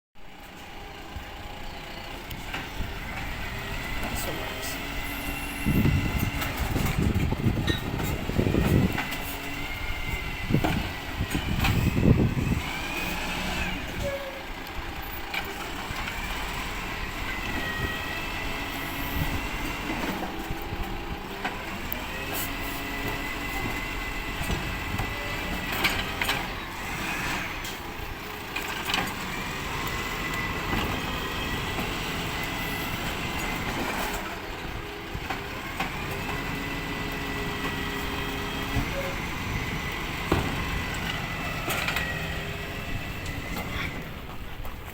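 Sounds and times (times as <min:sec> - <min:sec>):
truck engine running: 0:00.2 - 0:44.9.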